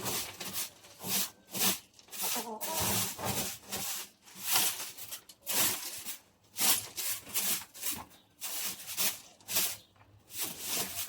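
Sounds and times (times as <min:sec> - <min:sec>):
scraping coop floor: 0:00.0 - 0:11.0.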